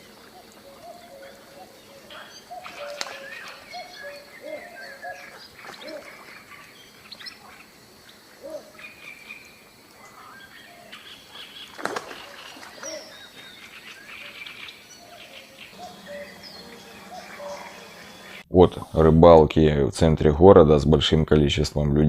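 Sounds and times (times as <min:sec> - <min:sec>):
birds chirping and calling: 0:00.0 - 0:18.5
faint background hiss: 0:00.0 - 0:22.0.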